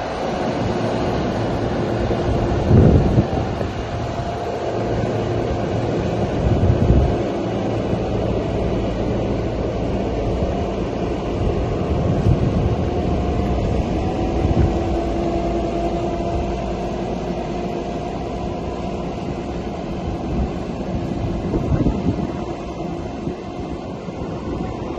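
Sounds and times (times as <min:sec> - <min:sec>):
faint whine: 0:00.0 - 0:24.9
loader engine droning: 0:00.0 - 0:24.9.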